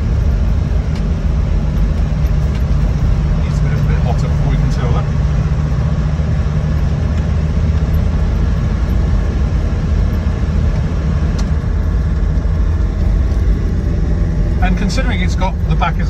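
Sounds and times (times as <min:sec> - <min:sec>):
diesel engine and road noise drone: 0:00.0 - 0:16.0.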